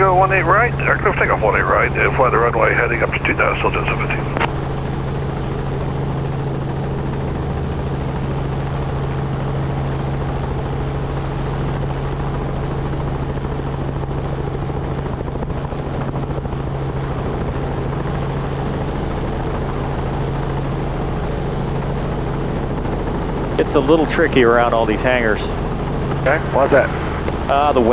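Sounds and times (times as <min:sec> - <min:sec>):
helicopter rotor and engine hum: 0:00.0 - 0:27.9.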